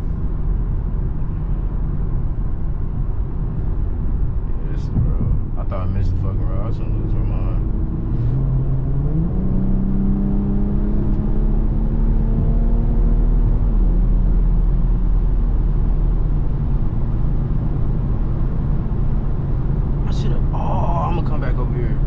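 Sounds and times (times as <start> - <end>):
low steady rumble: 0.0 - 22.0
car engine accelerating: 3.5 - 22.0.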